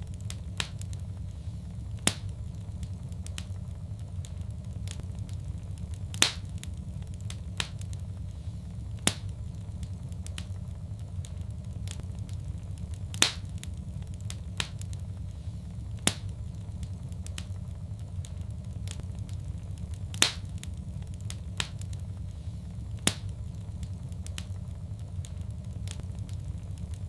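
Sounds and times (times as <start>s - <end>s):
fire crackling: 0.0s - 27.0s
fire popping loudly: 0.0s - 27.0s
low rumble: 0.0s - 27.0s.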